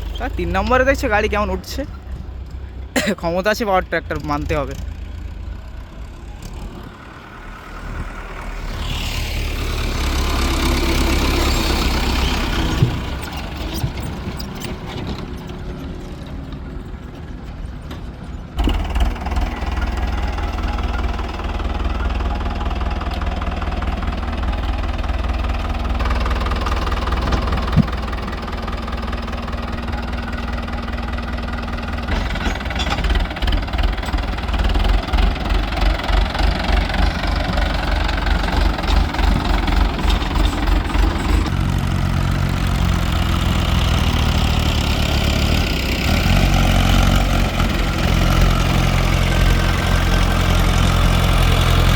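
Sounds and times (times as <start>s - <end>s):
diesel tractor engines under load: 0.0s - 51.9s.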